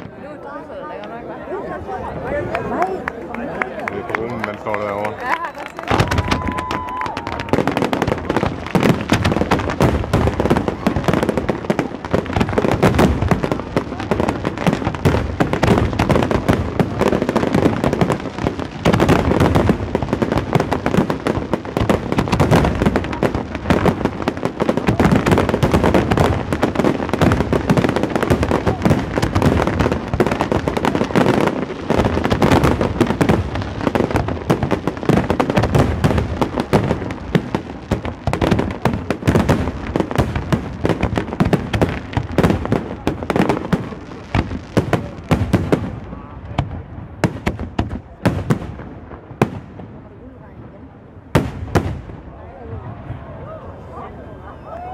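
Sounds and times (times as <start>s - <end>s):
fireworks bangs and crackle: 3.9s - 53.4s.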